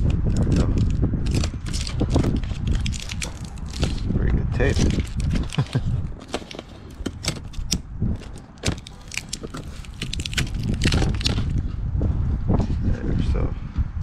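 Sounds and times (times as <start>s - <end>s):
tape crinkling: 0.0s - 11.6s.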